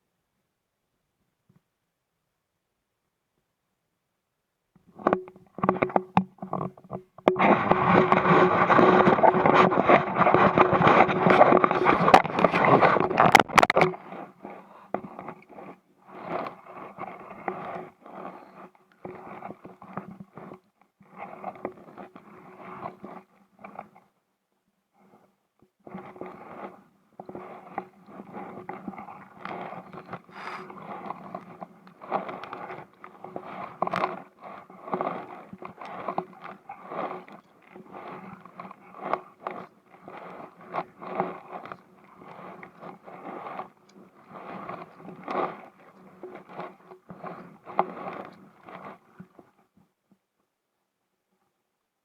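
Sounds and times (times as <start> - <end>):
scraping and rubbing noises: 5.0 - 24.1, 25.0 - 49.9.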